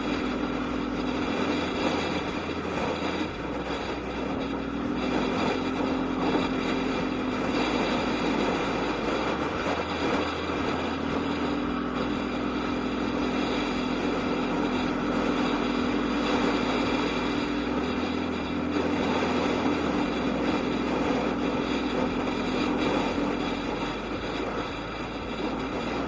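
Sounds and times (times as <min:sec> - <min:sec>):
scooter engine running: 0:00.0 - 0:26.0
wind and road noise: 0:00.0 - 0:26.0.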